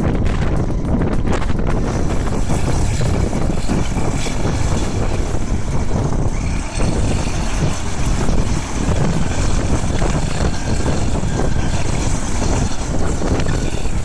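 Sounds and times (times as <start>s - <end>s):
heavy machine engine running: 0.0s - 14.0s
wind buffeting microphone: 0.0s - 14.0s.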